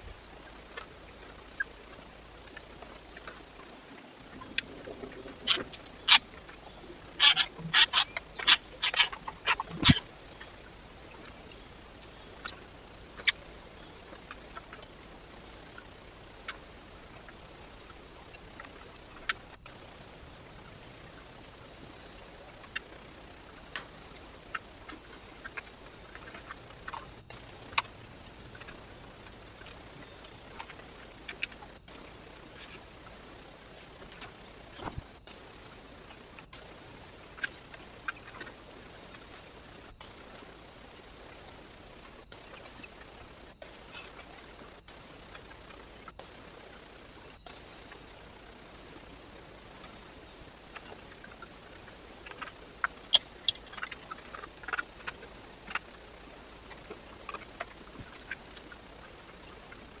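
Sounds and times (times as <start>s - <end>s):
microphone hiss: 0.0s - 60.0s.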